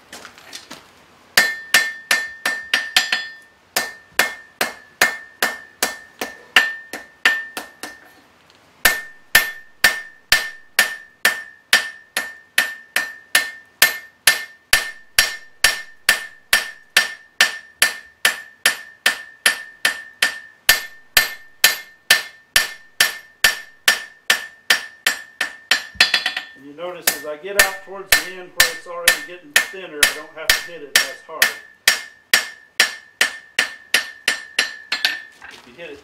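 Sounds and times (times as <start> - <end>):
hammer striking steel on anvil: 1.4 - 8.2, 8.8 - 35.3.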